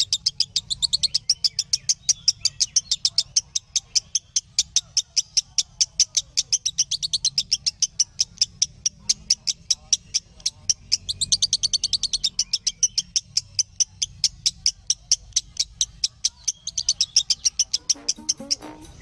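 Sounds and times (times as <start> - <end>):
bird chirping rapidly: 0.0 - 19.0.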